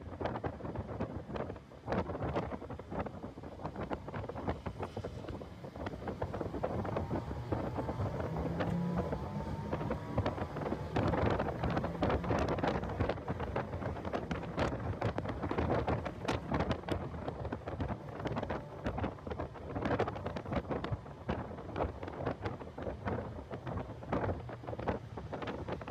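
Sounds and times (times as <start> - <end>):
wind buffeting microphone: 0.0 - 25.9
car engine accelerating: 3.7 - 25.9.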